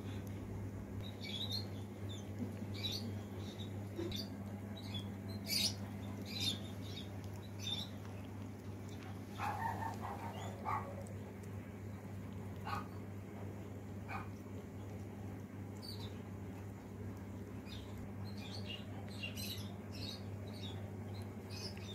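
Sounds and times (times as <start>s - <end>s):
cat licking and smacking: 0.0s - 21.8s
steady low hum: 0.0s - 21.9s.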